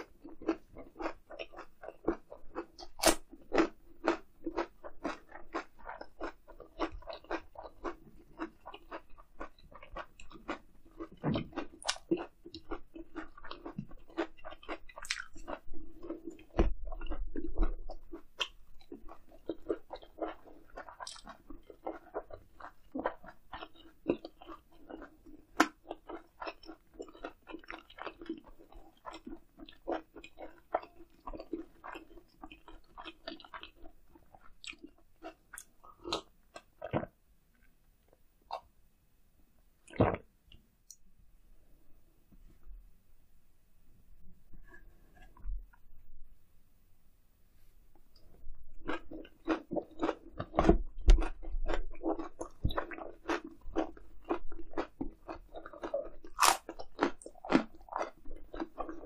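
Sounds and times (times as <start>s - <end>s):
chewing with crisp crunches: 0.0s - 37.7s, 48.1s - 59.0s.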